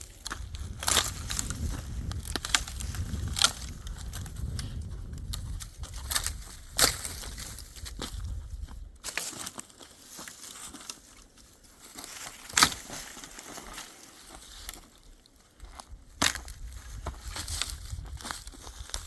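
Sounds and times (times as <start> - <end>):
sharp wood cracks: 0.0 - 19.0
twigs crackling and snapping: 0.0 - 19.0.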